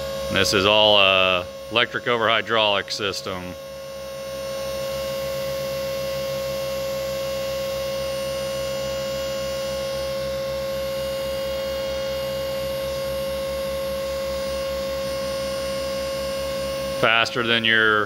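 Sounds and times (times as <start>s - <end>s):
hydraulic pump whining and pulsing: 0.0s - 18.0s.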